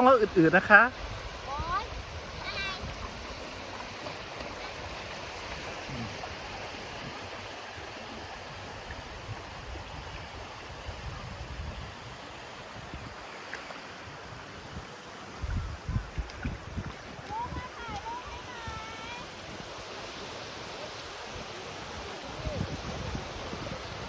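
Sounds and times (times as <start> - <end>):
sea waves washing on beach: 0.0 - 24.0.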